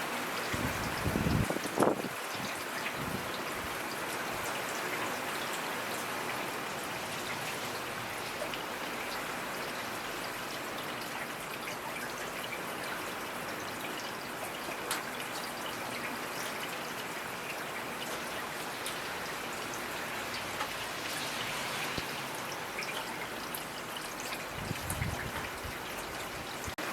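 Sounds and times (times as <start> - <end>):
raindrops ticking on surfaces: 0.0 - 26.9
steady rain hiss: 0.0 - 26.9.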